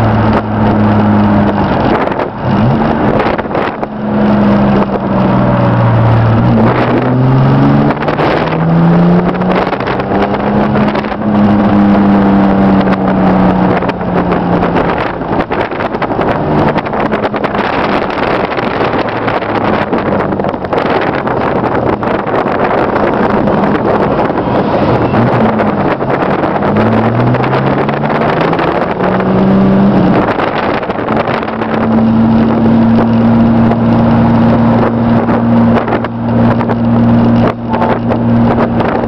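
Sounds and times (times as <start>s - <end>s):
car engine revving through gears: 0.0s - 39.0s
road and wind noise: 0.0s - 39.0s.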